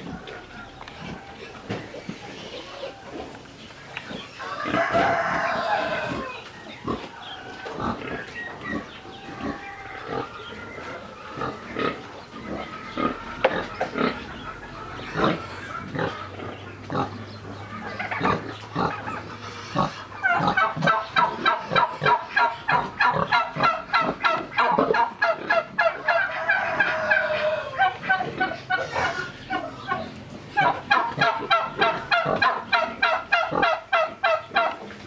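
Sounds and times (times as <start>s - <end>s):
pigs grunting: 0.0s - 35.0s
poultry calling: 0.0s - 35.0s.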